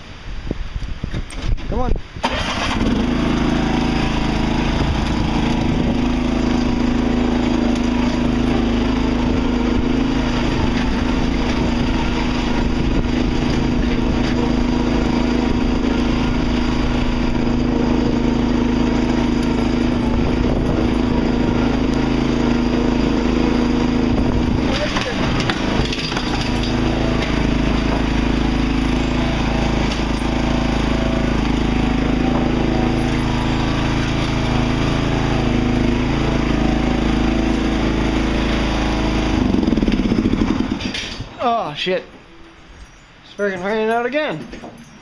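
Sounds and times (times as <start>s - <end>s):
lawn tractor engine running: 2.2s - 45.0s.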